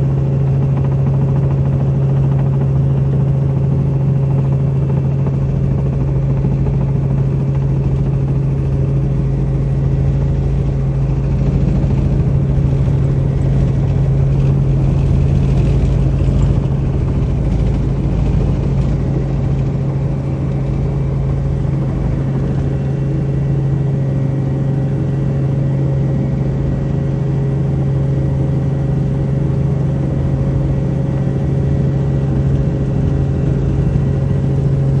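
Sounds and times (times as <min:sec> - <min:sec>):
helicopter turbine and rotor drone: 0:00.0 - 0:35.0.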